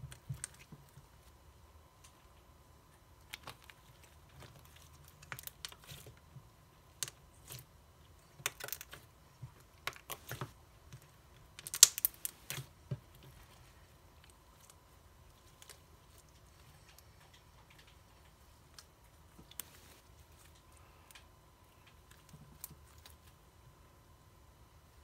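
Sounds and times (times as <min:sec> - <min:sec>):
slime kneaded by hand: 0:03.2 - 0:23.4.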